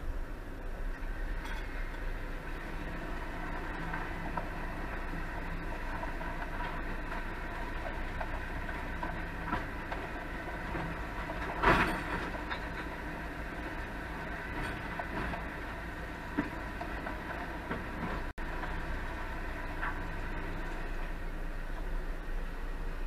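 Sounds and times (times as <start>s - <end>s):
garbage truck mechanical drone: 0.0s - 23.0s.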